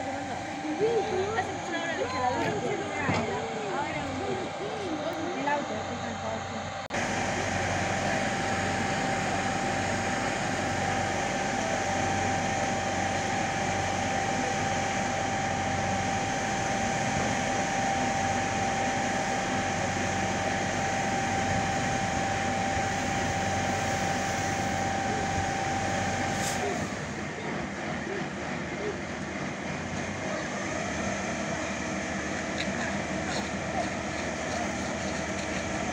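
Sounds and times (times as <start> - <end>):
pump whine: 0.0 - 35.9.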